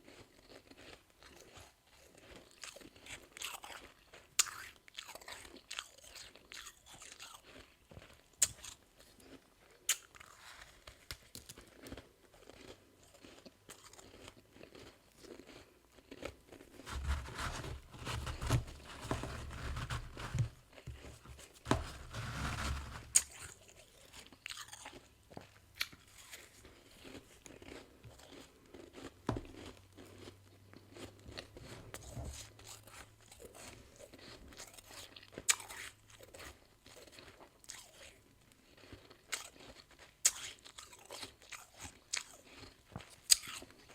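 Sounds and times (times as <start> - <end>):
chewing frost crunches: 0.0 - 43.9.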